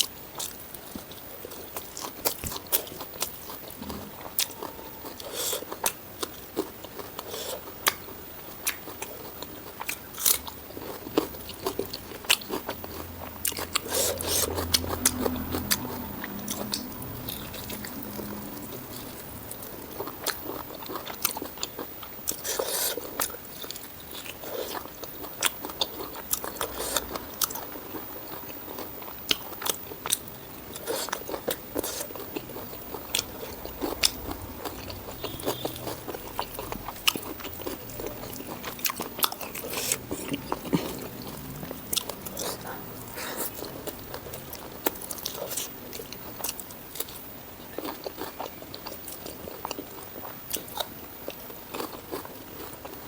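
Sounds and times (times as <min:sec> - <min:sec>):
wet chewing: 0:00.0 - 0:53.0.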